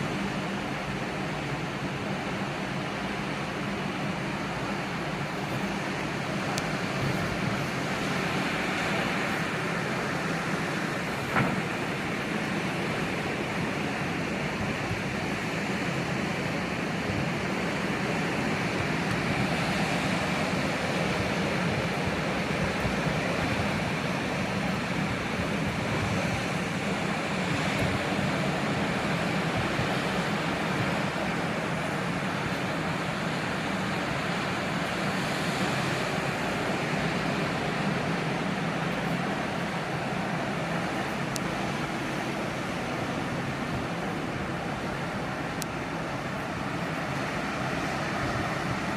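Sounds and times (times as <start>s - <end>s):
sea surf washing on shore: 0.0s - 48.9s.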